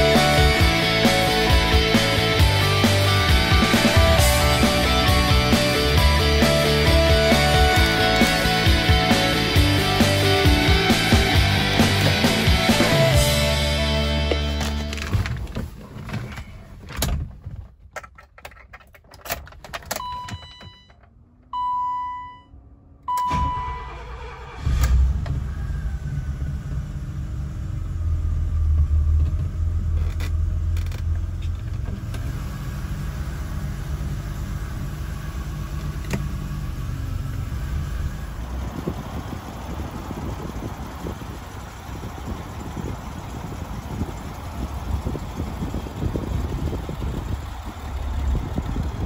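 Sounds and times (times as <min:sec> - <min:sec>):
car engine starting and idling: 0:00.0 - 0:49.0.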